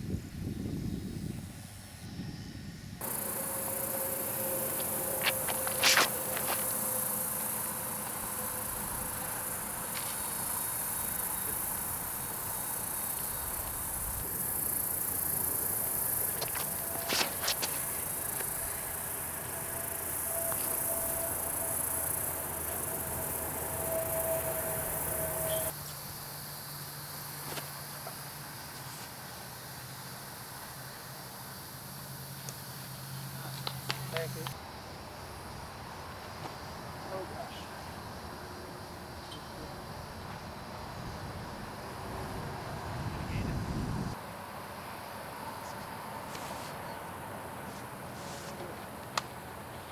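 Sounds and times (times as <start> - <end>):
crickets buzzing: 0.0 - 49.9.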